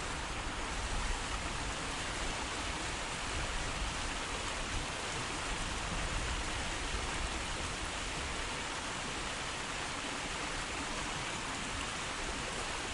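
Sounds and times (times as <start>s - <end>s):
stream flowing: 0.0s - 12.9s.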